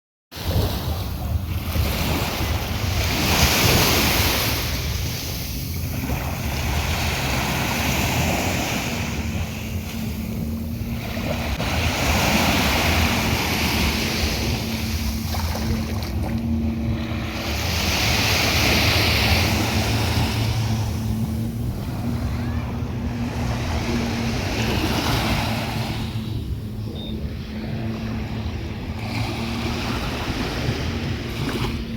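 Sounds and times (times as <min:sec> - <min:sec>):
sea waves breaking: 0:00.4 - 0:31.9
wind buffeting microphone: 0:00.4 - 0:31.9
steady low hum: 0:00.8 - 0:31.9.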